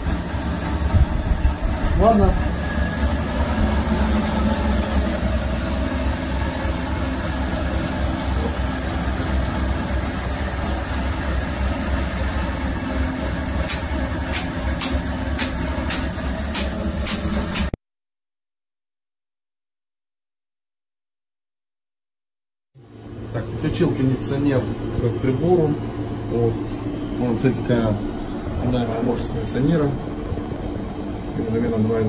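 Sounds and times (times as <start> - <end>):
fan heater blowing: 0.0 - 17.8, 22.8 - 32.0
machine hum: 0.0 - 17.8, 22.8 - 32.0.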